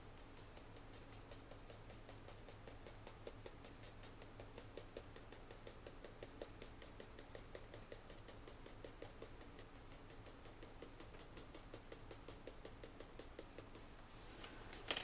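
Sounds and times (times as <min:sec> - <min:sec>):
pencil tapping on paper: 0:00.0 - 0:14.0.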